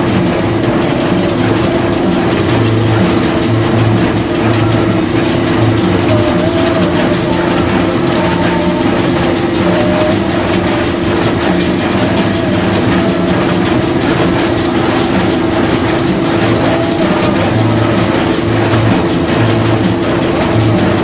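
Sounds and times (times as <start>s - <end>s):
constant machine whine: 0.0s - 21.0s
loud farm machinery engine: 0.0s - 21.0s.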